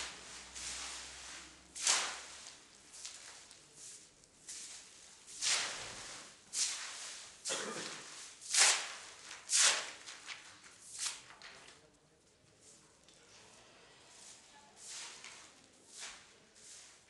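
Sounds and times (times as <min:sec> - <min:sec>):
broom sweeping hard floor: 0:00.0 - 0:11.3, 0:14.0 - 0:17.0.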